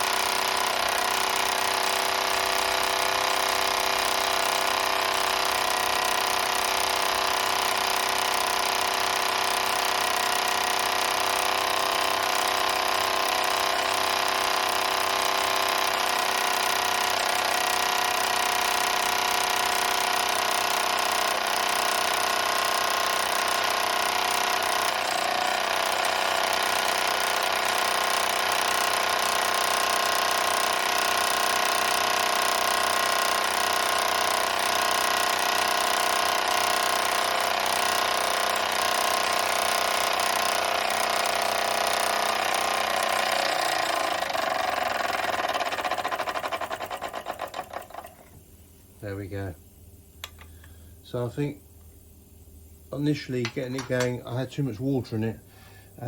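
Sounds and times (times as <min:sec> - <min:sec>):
toy steam engine chattering: 0:00.0 - 0:48.3.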